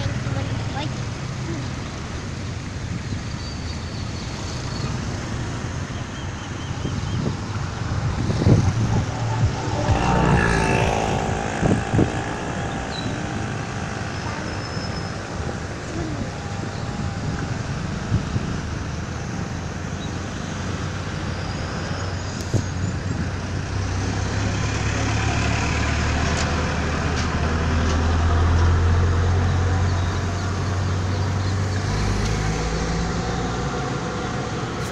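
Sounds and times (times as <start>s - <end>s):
passing vehicle engine rumble: 0.0s - 34.9s
road traffic noise: 0.0s - 34.9s.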